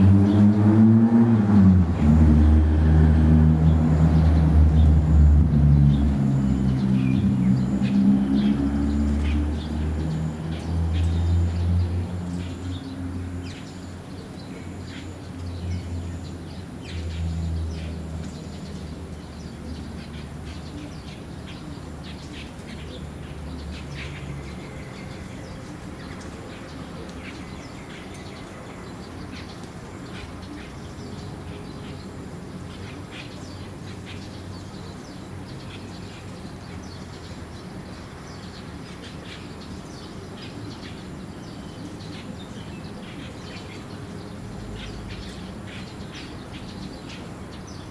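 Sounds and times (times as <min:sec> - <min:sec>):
birds chirping: 0:01.8 - 0:47.9.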